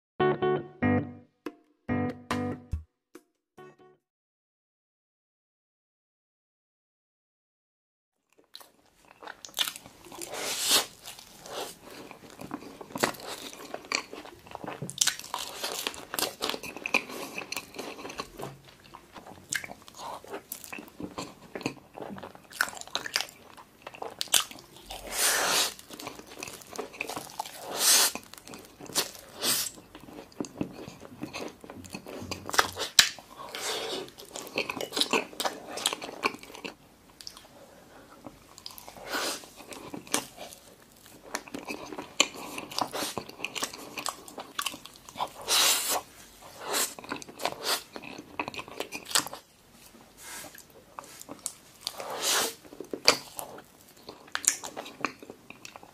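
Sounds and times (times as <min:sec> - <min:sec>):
man chewing with wet smacks: 0:08.3 - 0:37.6, 0:38.2 - 0:55.9.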